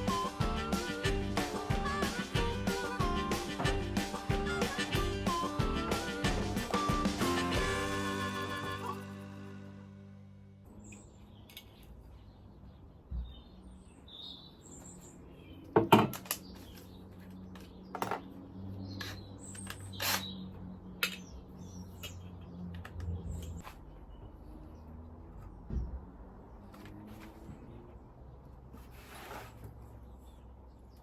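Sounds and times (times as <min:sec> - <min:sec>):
birds chirping: 0:00.0 - 0:09.8, 0:10.7 - 0:26.0.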